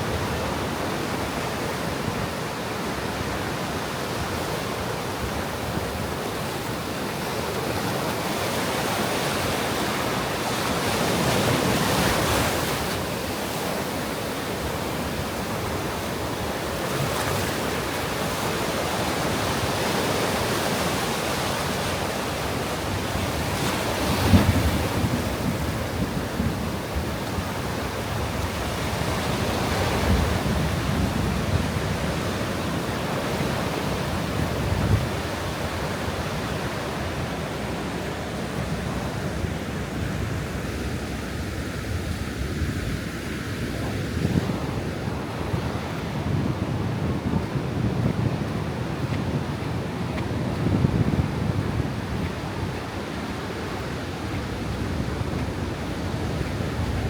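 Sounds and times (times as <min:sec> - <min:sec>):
sea waves breaking on beach: 0:00.0 - 0:57.0
wind buffeting microphone: 0:02.1 - 0:57.0.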